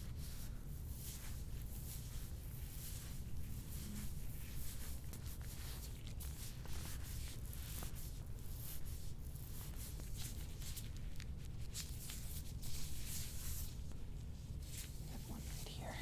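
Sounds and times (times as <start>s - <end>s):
scratchy rubbing strokes on skin: 0.0s - 16.0s.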